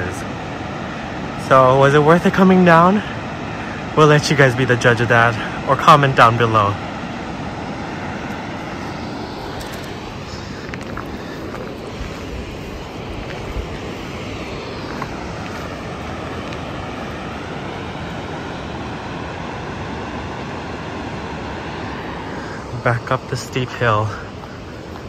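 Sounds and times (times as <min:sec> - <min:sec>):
water rushing in creek: 0:00.0 - 0:25.0.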